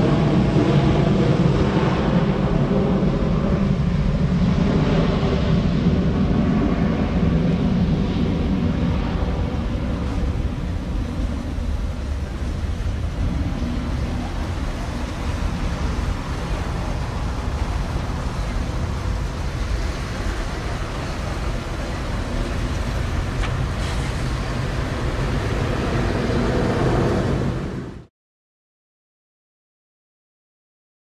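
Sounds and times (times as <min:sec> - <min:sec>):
jet engines rumbling: 0:00.0 - 0:28.1.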